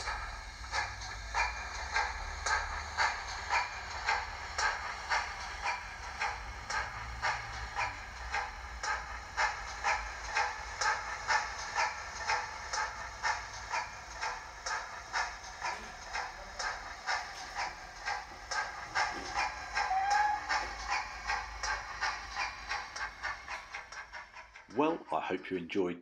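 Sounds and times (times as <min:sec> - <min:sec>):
model train steam chuffs: 0:00.0 - 0:24.7.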